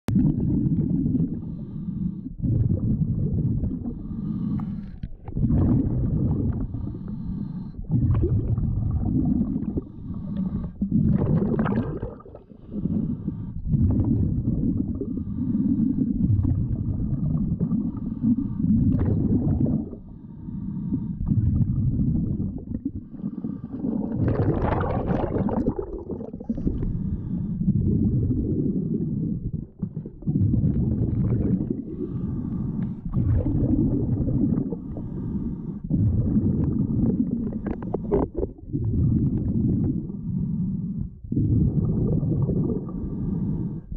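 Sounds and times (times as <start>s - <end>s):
gurgling exhaust bubbles underwater: 0.0s - 43.9s
diver breathing through regulator: 1.2s - 43.9s.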